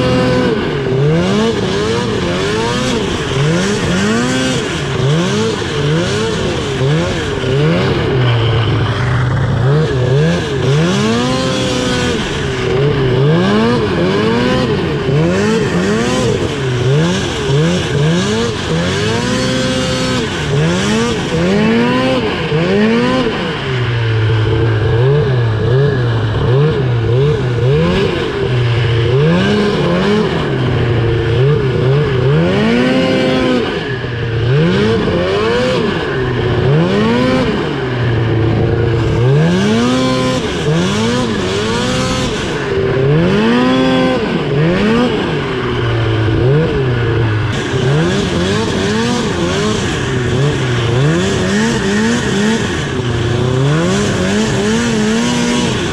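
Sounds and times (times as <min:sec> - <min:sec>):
snowmobile engine revving: 0:00.0 - 0:55.9.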